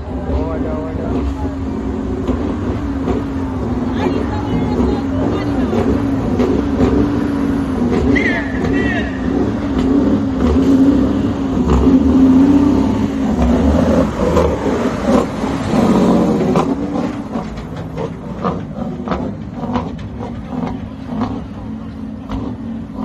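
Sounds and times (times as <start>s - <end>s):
heavy truck engine running: 0.0s - 23.0s.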